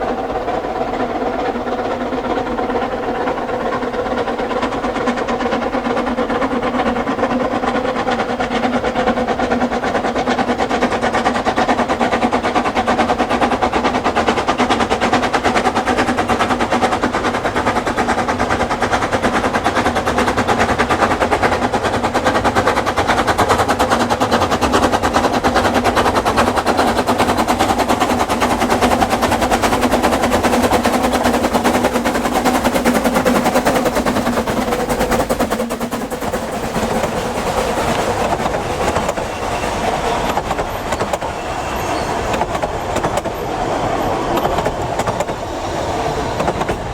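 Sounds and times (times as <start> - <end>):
steam locomotive exhaust beats: 0.0 - 46.9
wheel clatter: 0.0 - 46.9.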